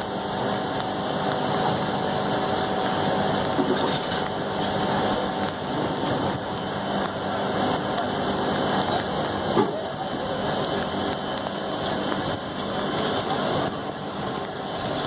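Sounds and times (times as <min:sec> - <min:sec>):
diesel locomotive engines humming: 0:00.0 - 0:15.0
steady rain: 0:00.0 - 0:15.0.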